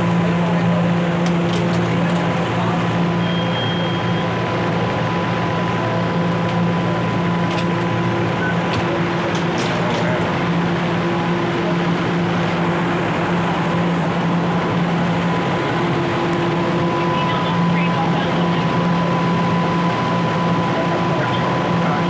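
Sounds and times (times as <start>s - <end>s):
subway train electrical hum: 0.0s - 22.0s.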